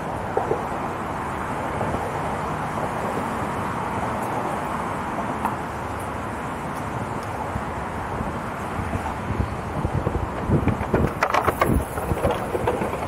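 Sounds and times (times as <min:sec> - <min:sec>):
car traffic hum: 0:00.0 - 0:13.0.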